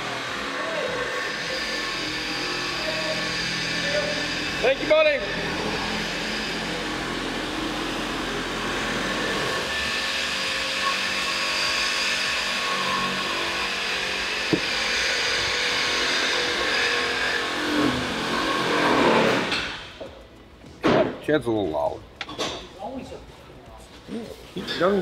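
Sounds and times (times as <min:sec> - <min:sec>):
motor running with hiss: 0:00.0 - 0:20.1.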